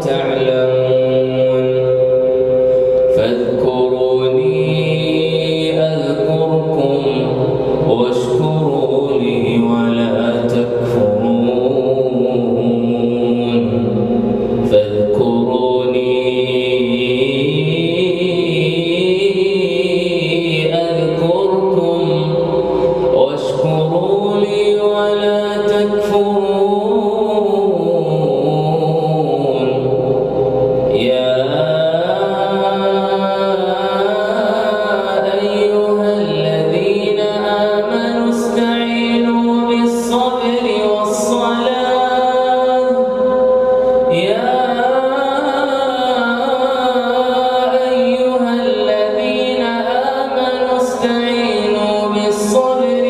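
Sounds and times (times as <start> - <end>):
man chanting: 0.0 - 53.0.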